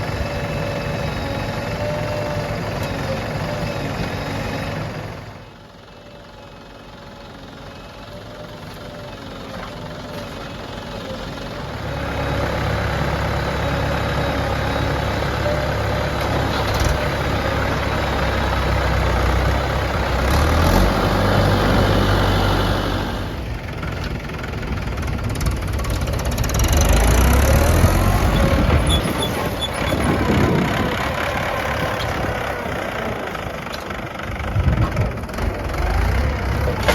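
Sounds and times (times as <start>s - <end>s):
diesel engines working: 0.0s - 36.9s.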